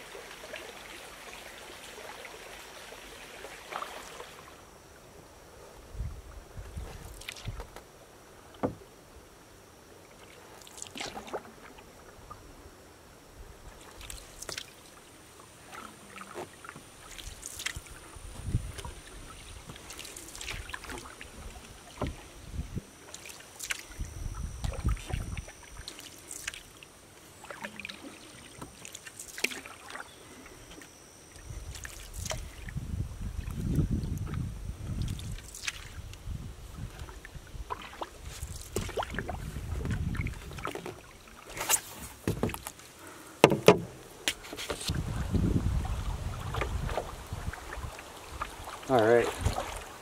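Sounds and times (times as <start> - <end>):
paddle splashing and dripping: 0.0 - 4.6, 10.1 - 12.4, 13.7 - 32.8, 33.4 - 36.1, 36.8 - 45.2, 45.8 - 50.0.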